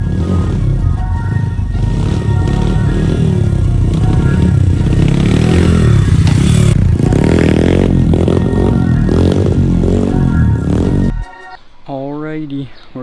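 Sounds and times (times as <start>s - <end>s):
pit bike engine revving: 0.0s - 11.2s
background music: 0.0s - 13.0s.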